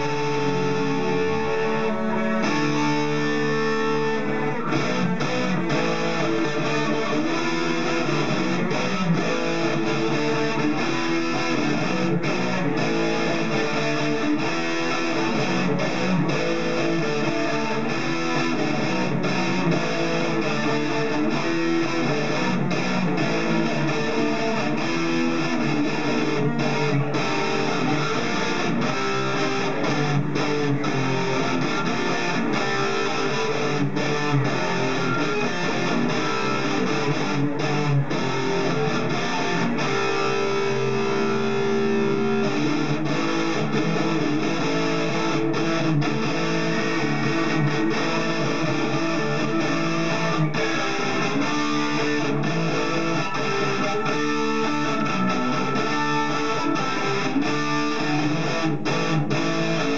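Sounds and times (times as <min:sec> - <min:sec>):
electric guitar solo: 0:00.0 - 0:59.9.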